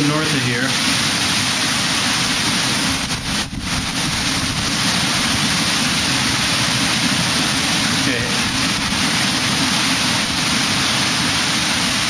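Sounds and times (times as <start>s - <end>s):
heavy rain on foliage: 0.0s - 12.0s.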